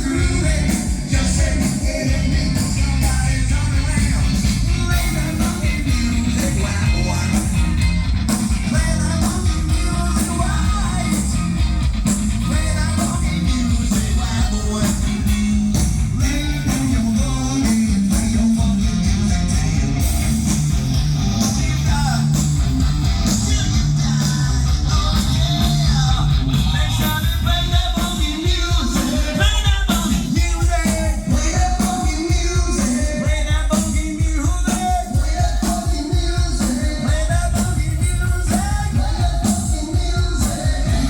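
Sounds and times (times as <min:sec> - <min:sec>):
person singing: 0:00.0 - 0:07.8, 0:12.4 - 0:20.2, 0:23.2 - 0:41.0
live rock band playing: 0:00.0 - 0:41.0.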